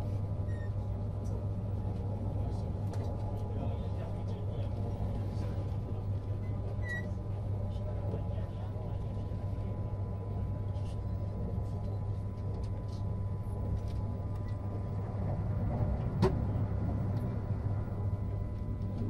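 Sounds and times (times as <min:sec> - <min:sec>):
train cabin rumble and hum: 0:00.0 - 0:19.0.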